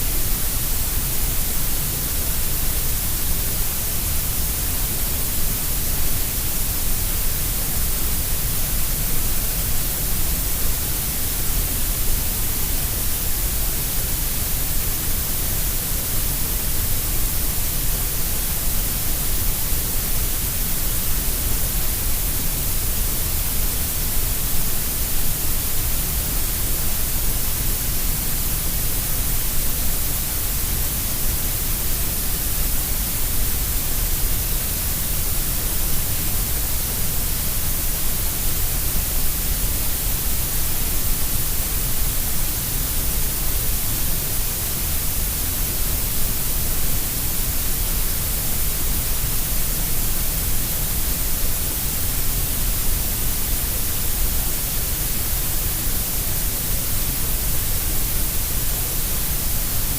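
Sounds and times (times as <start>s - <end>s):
grey noise hiss: 0.0s - 59.9s.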